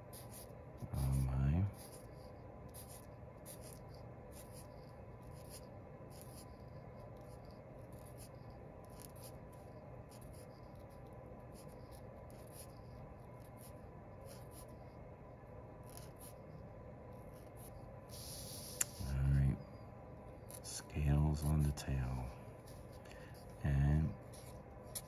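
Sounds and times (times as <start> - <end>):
marker scratching on paper: 0.0 - 14.9, 15.8 - 19.6, 20.3 - 25.0.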